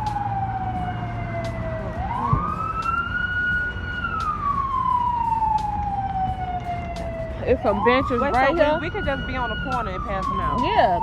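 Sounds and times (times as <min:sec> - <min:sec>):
emergency siren wailing: 0:00.0 - 0:11.0
low street noise rumble: 0:00.0 - 0:11.0.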